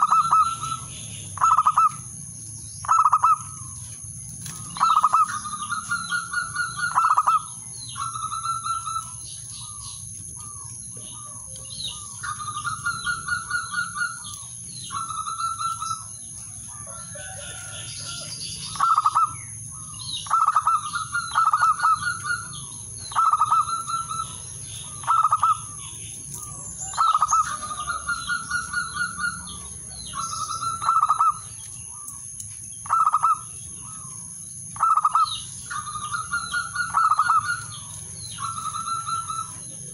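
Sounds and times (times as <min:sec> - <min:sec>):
dove cooing: 0:00.0 - 0:02.1, 0:02.8 - 0:03.8, 0:04.4 - 0:16.1, 0:16.7 - 0:32.0, 0:34.8 - 0:39.9.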